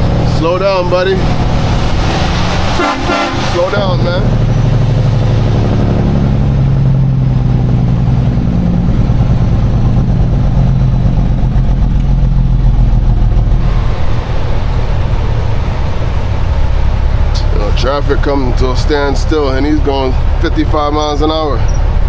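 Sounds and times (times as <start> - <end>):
road and wind noise: 0.0 - 22.0
truck diesel engine droning: 0.0 - 22.0.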